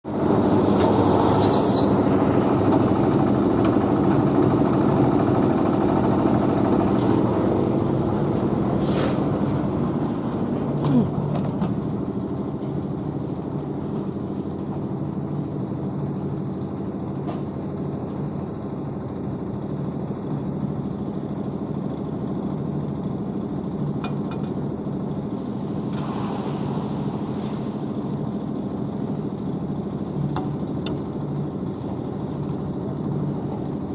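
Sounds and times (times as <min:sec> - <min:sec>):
engine running: 0:00.1 - 0:33.9.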